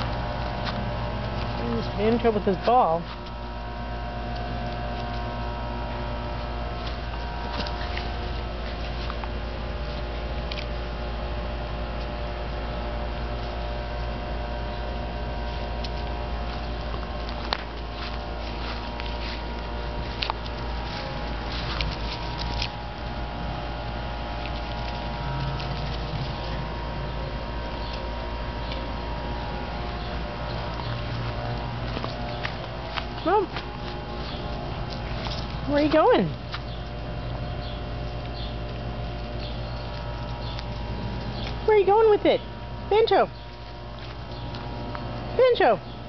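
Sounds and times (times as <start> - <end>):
puppy scrambling on dry leaves: 0.0 - 10.4, 14.8 - 42.6
steady low hum: 0.0 - 46.0.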